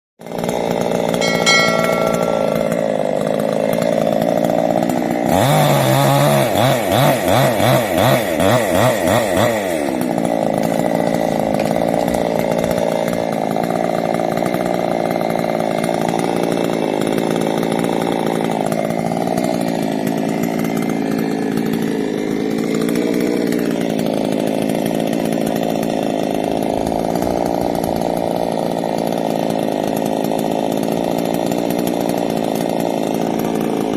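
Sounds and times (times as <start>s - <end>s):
chainsaw engine running: 0.2s - 33.9s.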